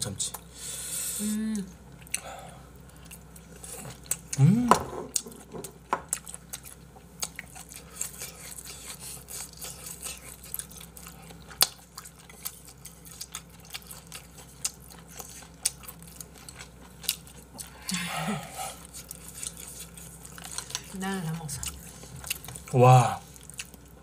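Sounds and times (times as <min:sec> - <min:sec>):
chewing and mouth sounds: 0:02.0 - 0:24.0.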